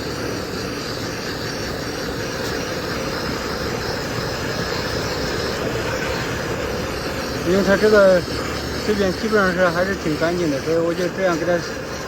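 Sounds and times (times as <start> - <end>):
air conditioner fan and compressor: 0.0 - 12.0
hose spraying water on metal coil: 0.0 - 12.0.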